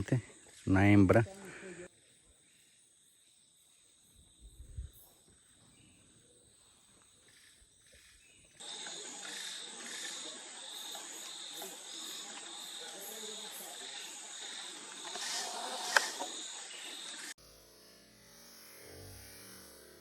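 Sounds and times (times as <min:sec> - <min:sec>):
insect chorus trilling: 0:00.0 - 0:17.6.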